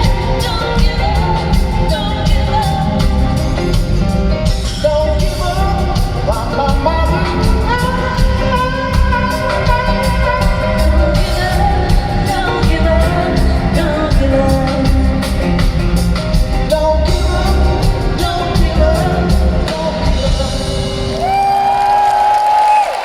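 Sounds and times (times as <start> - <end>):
live rock band playing: 0.0 - 22.0
steady drum beat: 0.0 - 22.0.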